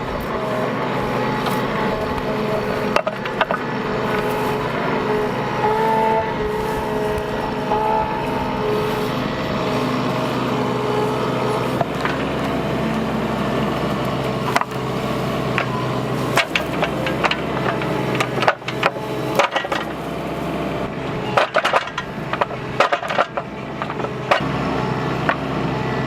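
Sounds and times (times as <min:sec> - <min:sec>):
diesel engine under load: 0:00.0 - 0:26.0
hydraulic whine: 0:00.0 - 0:26.0.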